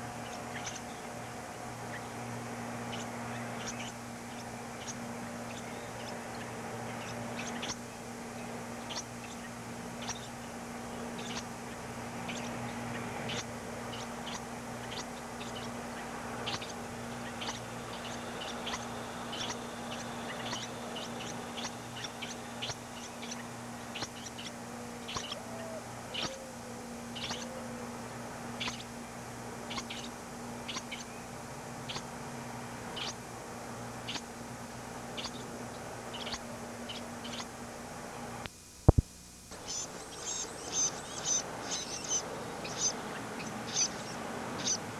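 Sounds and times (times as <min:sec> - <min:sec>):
nestling birds cheeping: 0:00.0 - 0:38.4, 0:39.5 - 0:44.9
low electrical hum: 0:00.0 - 0:44.9.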